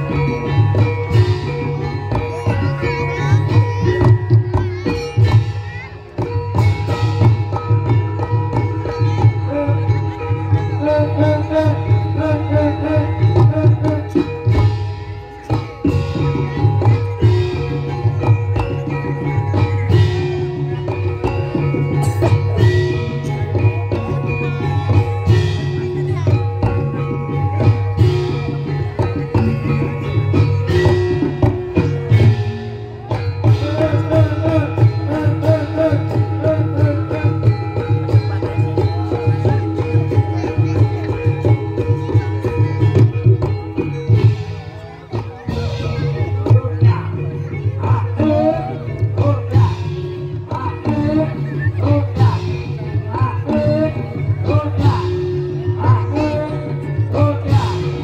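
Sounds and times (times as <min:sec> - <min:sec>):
hand drums beating: 0:00.0 - 0:58.0
metallophone notes: 0:00.0 - 0:58.0
ringing tuned percussion: 0:00.0 - 0:58.0.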